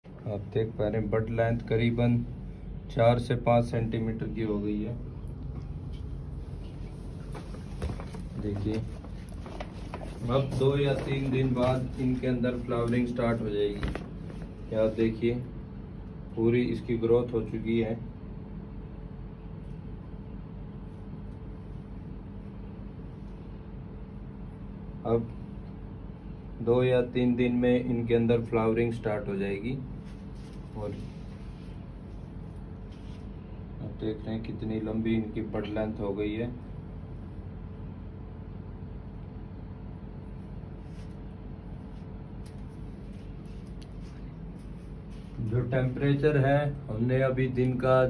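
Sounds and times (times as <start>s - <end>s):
air conditioner hum and hiss: 0.0s - 48.0s.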